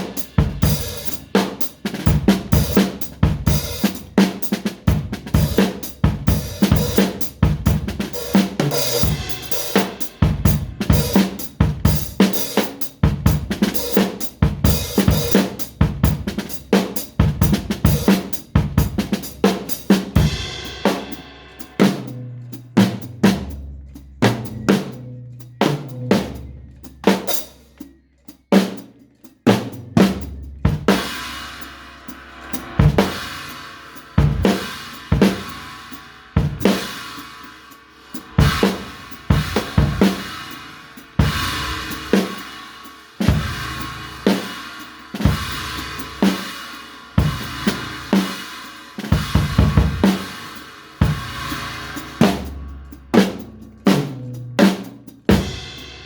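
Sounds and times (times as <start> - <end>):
cymbal wash: 0.0 - 23.1, 30.7 - 54.2, 54.8 - 56.0
drum kit playing a beat: 0.0 - 56.0.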